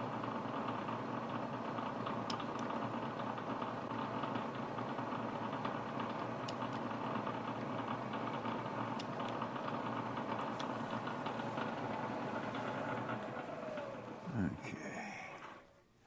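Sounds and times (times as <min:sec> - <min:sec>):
machine running steadily: 0:00.0 - 0:15.6.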